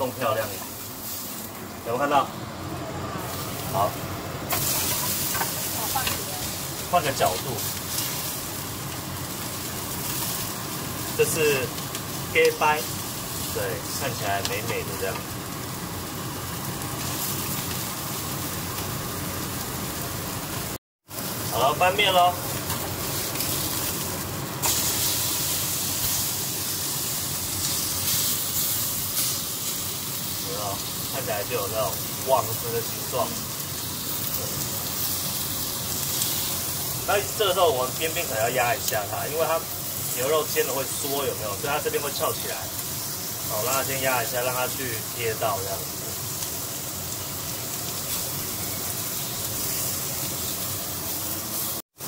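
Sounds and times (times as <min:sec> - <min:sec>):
steak sizzling on grill pan: 0:00.0 - 0:52.0.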